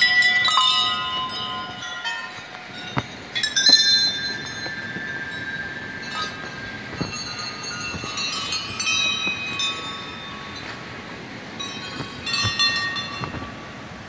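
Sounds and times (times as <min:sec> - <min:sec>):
metal bells ringing: 0:00.0 - 0:13.8.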